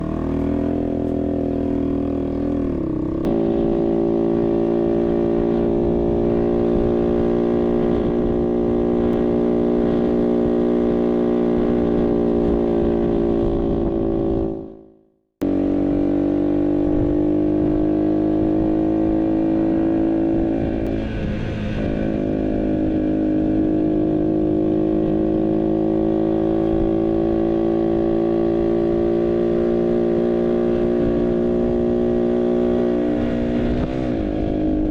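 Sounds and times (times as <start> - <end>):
moped engine running: 0.0 - 34.9.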